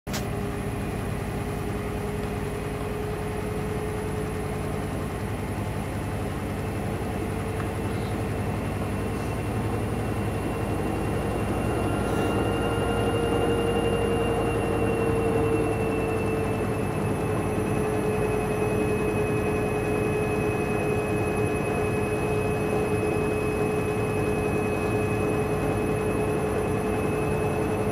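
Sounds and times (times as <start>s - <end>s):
higher whine: 0.1s - 27.9s
washing machine motor whine: 0.1s - 27.9s.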